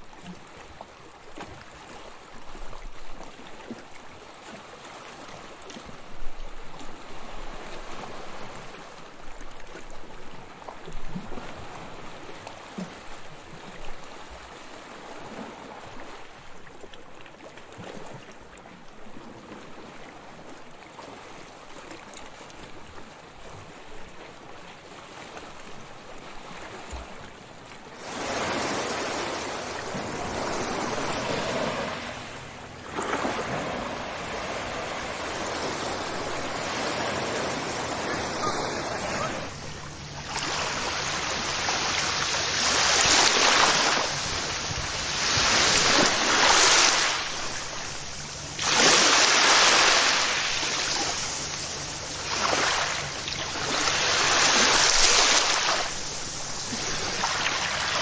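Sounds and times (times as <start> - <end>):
sea waves on a shore: 0.0 - 58.0.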